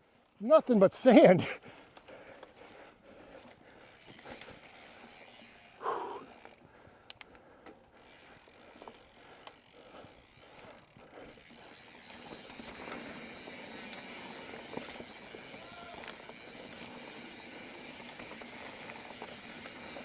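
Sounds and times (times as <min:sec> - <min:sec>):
bike tyres on dirt: 0:00.2 - 0:20.0.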